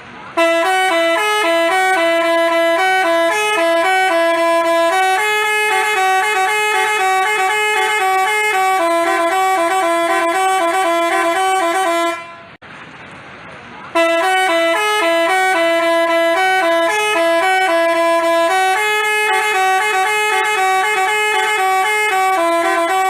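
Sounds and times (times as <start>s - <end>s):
bus horn playing a tune: 0.3s - 12.6s, 13.9s - 23.0s.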